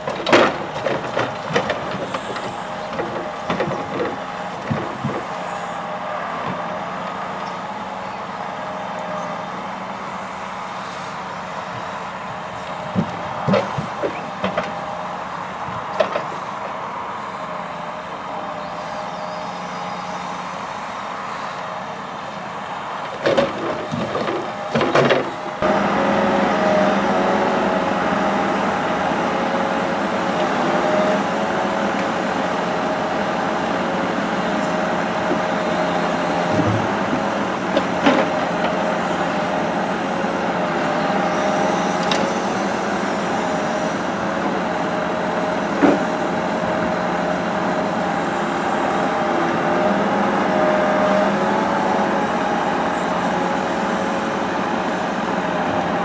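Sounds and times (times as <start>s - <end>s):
truck engine hum and whine: 0.0s - 56.0s.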